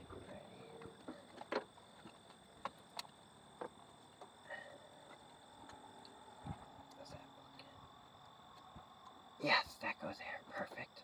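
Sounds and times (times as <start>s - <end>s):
quiet background hum: 0.0s - 11.0s.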